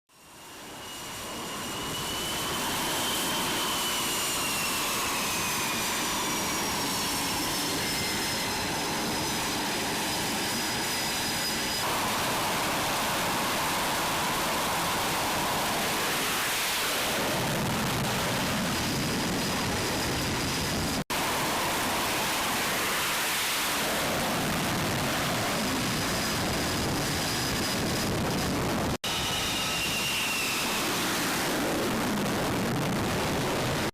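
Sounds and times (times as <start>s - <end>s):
jet engines with turbine whine: 0.1s - 33.9s.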